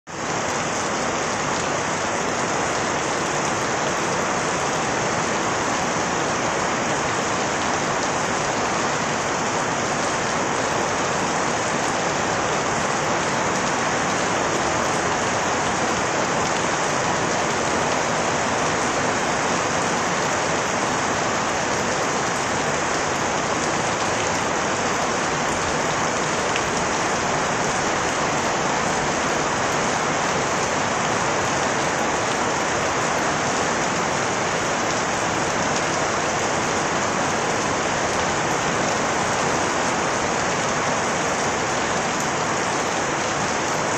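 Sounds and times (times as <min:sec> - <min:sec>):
rain pattering on surfaces: 0:00.1 - 0:43.9.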